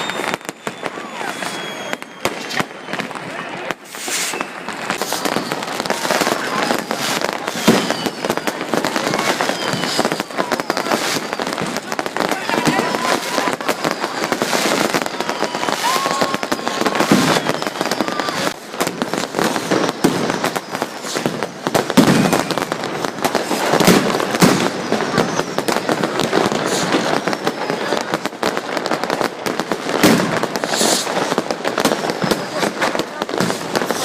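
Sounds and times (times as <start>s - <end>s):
faint firework whistles: 0.0s - 34.0s
firecrackers crackling: 0.0s - 34.0s
firework booms: 0.0s - 34.0s.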